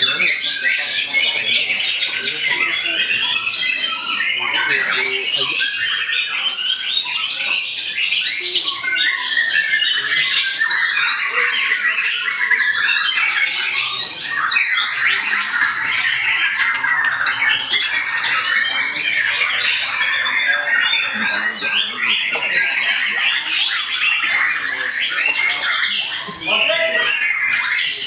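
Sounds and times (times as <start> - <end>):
songbirds singing in chorus: 0.0 - 28.0.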